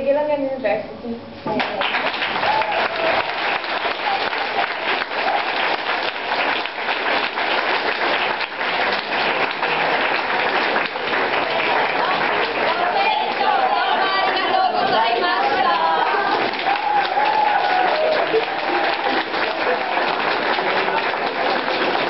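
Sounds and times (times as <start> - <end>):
audience clapping: 1.6 - 22.0.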